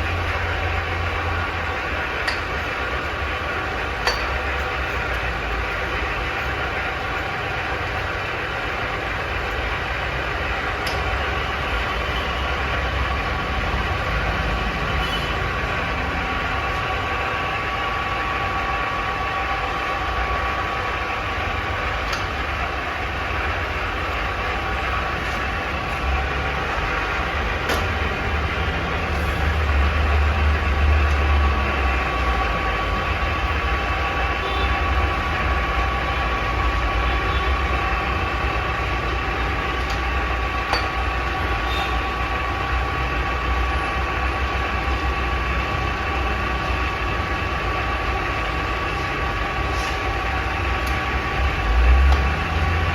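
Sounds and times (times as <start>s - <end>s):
lathe running: 0.0s - 52.9s.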